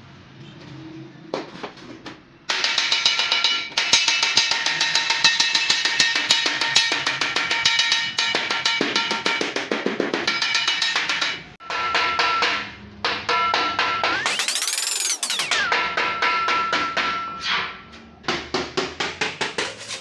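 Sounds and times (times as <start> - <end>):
hammer striking sheet metal: 2.5 - 20.0.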